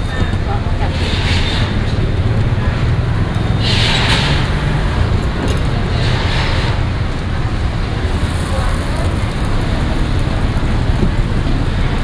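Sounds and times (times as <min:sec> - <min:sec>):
engine rumble: 0:00.0 - 0:12.0
passing vehicles hissing: 0:00.0 - 0:12.0.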